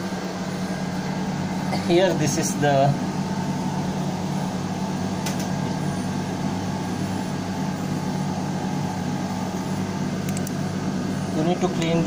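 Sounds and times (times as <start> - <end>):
engine room machinery hum: 0.0 - 12.0.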